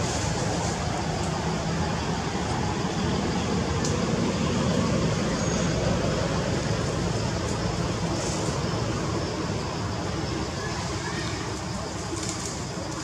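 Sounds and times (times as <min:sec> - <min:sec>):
hiss: 0:00.0 - 0:02.8, 0:03.8 - 0:13.0
low outdoor rumble: 0:00.0 - 0:13.0.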